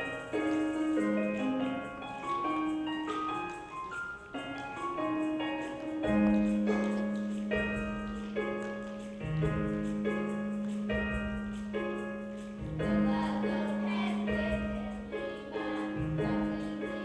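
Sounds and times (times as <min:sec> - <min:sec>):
keyboard chords: 0:00.0 - 0:17.0.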